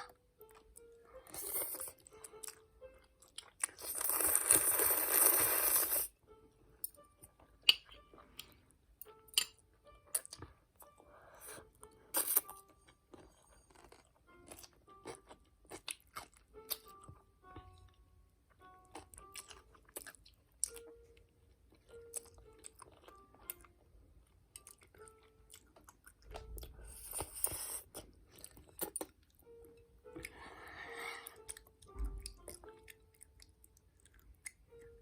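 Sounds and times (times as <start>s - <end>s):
chewing and crunching noodles: 0.0s - 6.1s, 9.3s - 17.9s, 18.9s - 20.9s, 21.7s - 29.4s, 30.2s - 35.0s.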